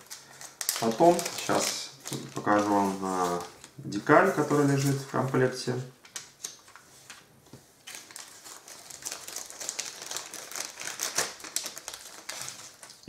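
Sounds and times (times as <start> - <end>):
plastic bag crinkling: 0.0 - 5.4, 7.8 - 13.0.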